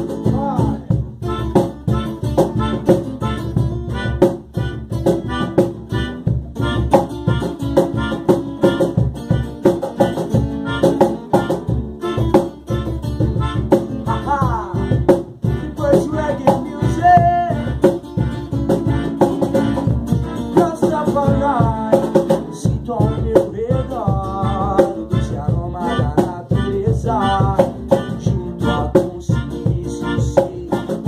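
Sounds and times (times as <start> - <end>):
reggae band playing: 0.0 - 31.0.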